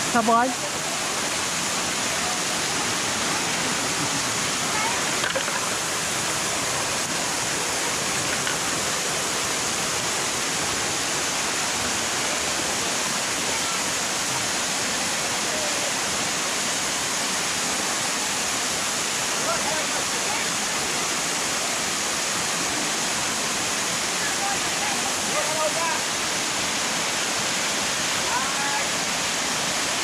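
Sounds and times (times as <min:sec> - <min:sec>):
waterfall rushing over rock: 0:00.0 - 0:30.0.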